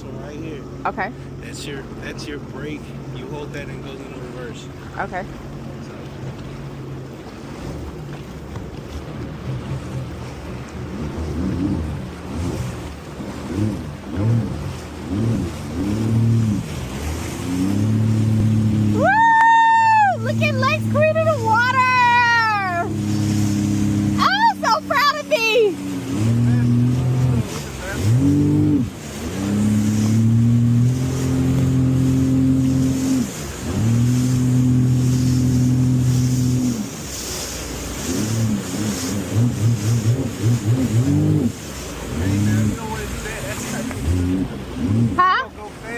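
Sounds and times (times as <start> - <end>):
jet ski engine revving: 0.0 - 45.9
water rushing: 0.0 - 45.9.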